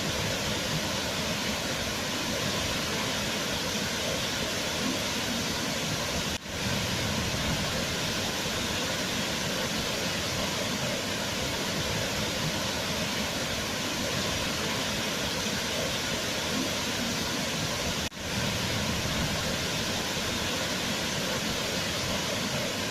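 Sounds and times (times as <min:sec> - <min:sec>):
waterfall pouring and splashing: 0:00.0 - 0:22.9.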